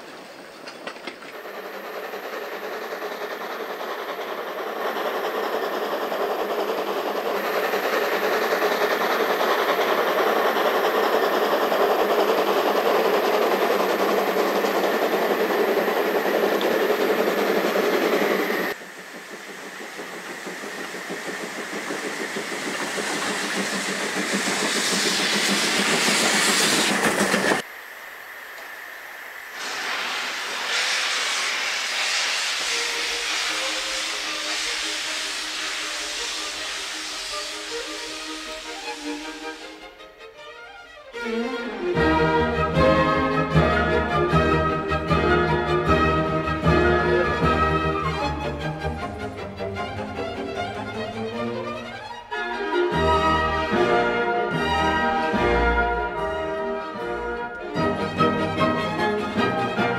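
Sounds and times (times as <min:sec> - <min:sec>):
steam locomotive exhaust: 0:00.0 - 0:40.8, 0:41.7 - 0:59.9.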